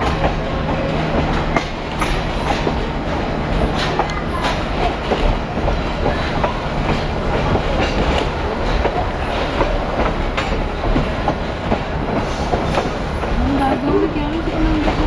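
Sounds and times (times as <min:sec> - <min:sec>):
train car rumbling on track: 0:00.0 - 0:15.0
wheels clacking over rails: 0:00.0 - 0:15.0.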